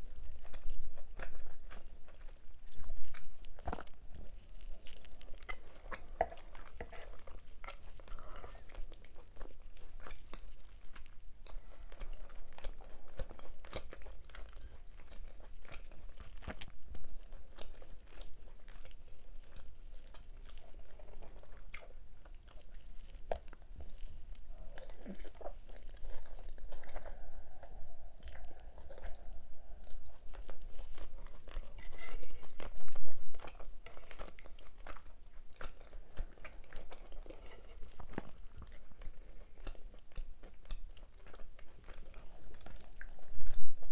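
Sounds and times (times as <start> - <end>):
person chewing food: 0.0 - 43.8.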